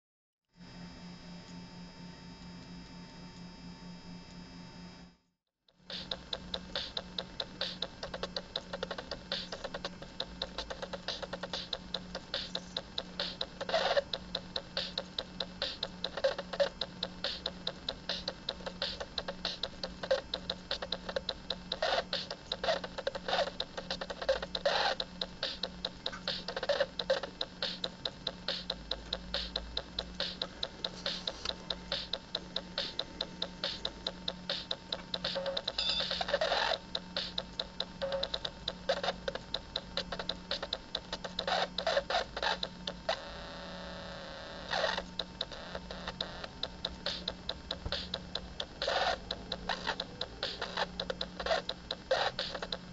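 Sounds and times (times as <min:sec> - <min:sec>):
low pulsing buzz: 0:00.6 - 0:52.0
electronic clicks and ticks: 0:05.7 - 0:43.6, 0:44.5 - 0:52.9
noisy electronic bursts: 0:05.8 - 0:52.9.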